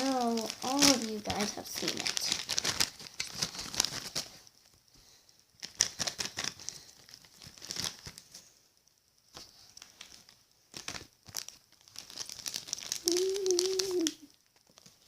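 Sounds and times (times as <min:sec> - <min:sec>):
packaging crinkling and tearing: 0:00.0 - 0:08.5, 0:09.3 - 0:15.0.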